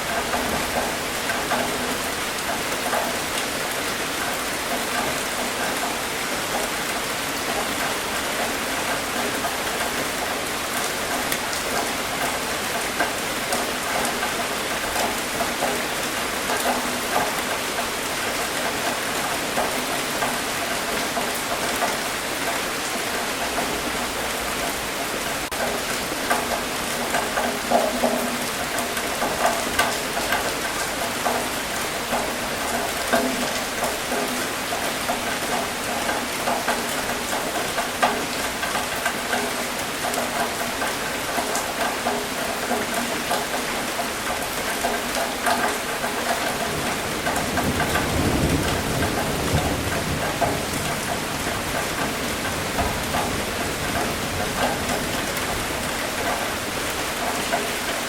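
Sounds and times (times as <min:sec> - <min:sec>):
raindrops ticking on a surface: 0:00.0 - 0:58.0
steady rain falling: 0:00.0 - 0:58.0.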